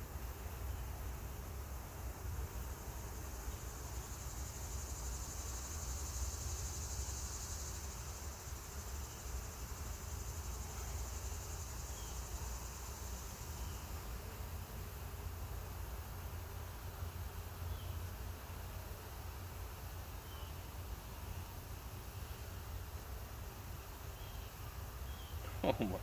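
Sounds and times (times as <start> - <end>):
insects trilling: 0.6 - 26.0.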